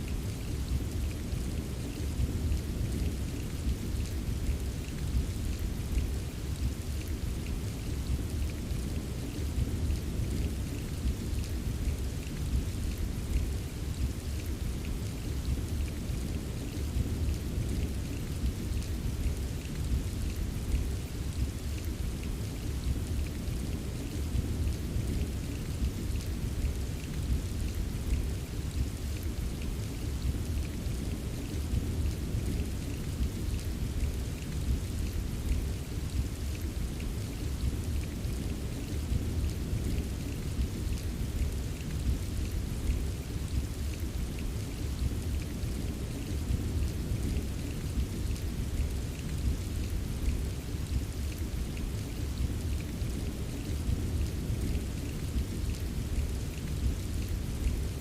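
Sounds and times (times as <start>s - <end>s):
steady rain: 0.0s - 58.0s
raindrop ticks: 0.1s - 58.0s.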